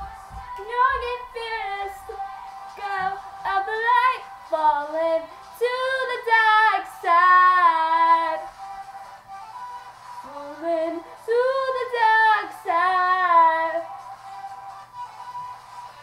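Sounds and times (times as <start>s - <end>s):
girl singing a pop song: 0.0s - 9.5s, 10.2s - 14.5s.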